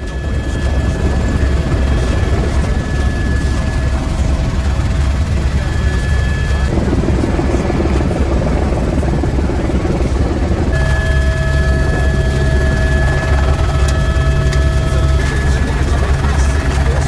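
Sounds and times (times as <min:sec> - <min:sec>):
helicopter rotor and engine drone: 0:00.0 - 0:17.0
multi-tone whine: 0:00.0 - 0:17.0.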